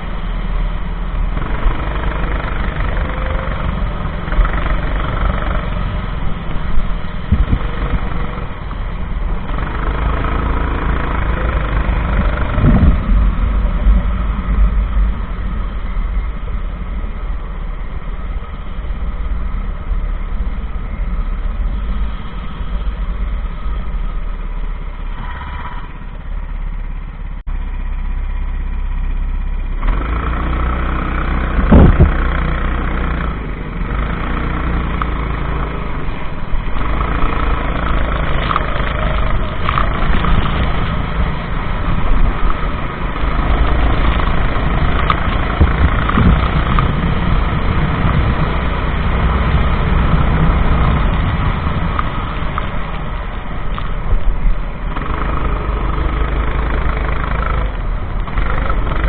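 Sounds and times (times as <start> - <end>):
go-kart engine racing: 0.0 - 27.4, 29.7 - 59.0.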